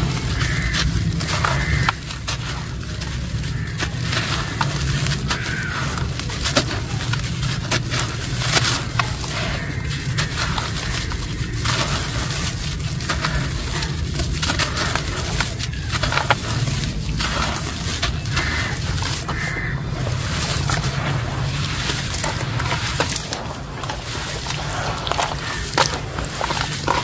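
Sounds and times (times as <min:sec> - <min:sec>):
cement crumbling into water: 0:00.0 - 0:27.0.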